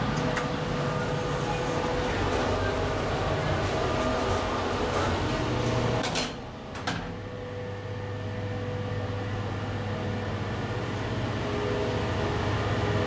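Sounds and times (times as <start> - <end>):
elevator low hum and whine: 0.0 - 13.0.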